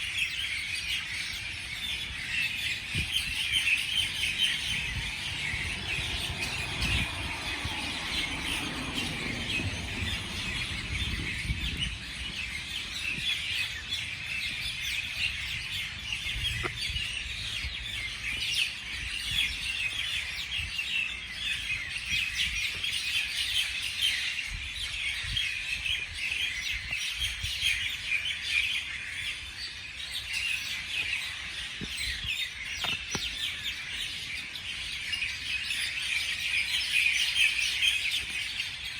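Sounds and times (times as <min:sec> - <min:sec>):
chorus of small birds chirping: 0:00.0 - 0:38.9.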